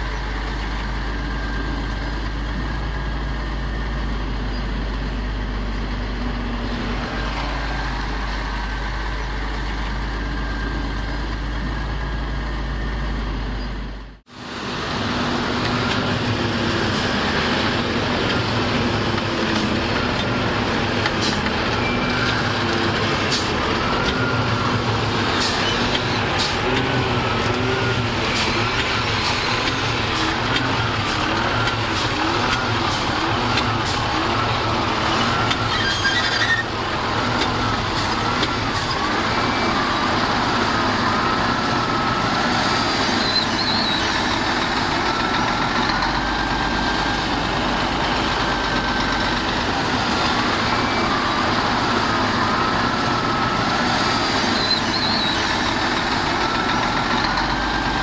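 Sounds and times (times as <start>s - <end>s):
diesel machinery engine: 0.0s - 58.0s.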